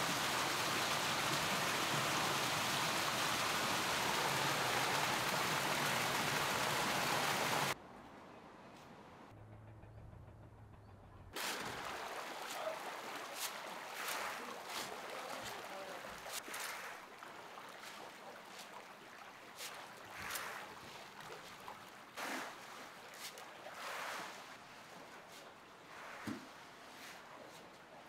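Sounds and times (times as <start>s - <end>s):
water churning and splashing: 0.0s - 7.8s, 11.4s - 28.0s.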